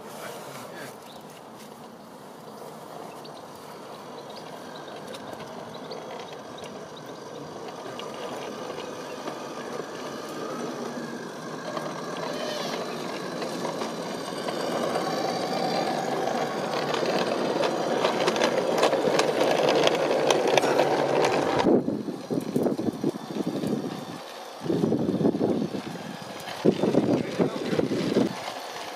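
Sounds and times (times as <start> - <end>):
model train wheels on rails: 0.0 - 28.9.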